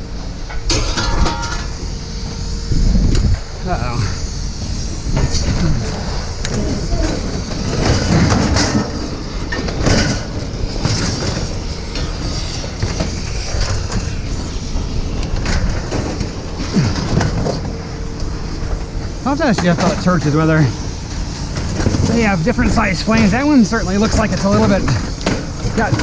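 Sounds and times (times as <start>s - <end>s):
scrap metal clanking and scraping: 0.4s - 1.9s, 5.1s - 26.0s.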